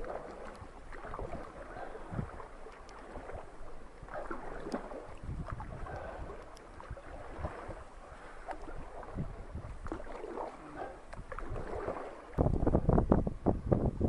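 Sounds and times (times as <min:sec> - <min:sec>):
water splashing against a boat: 0:00.0 - 0:14.0
wind rumble on microphone: 0:00.0 - 0:14.0.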